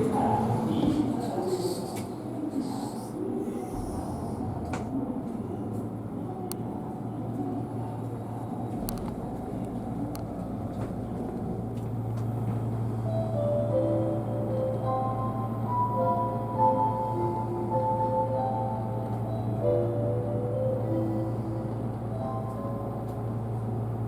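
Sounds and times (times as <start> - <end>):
low hum inside train car: 0.0 - 24.0.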